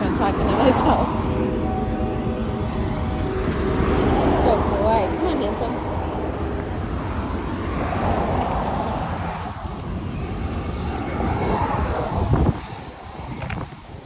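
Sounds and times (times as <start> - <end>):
distant engine rushing rumble: 0.0 - 14.0.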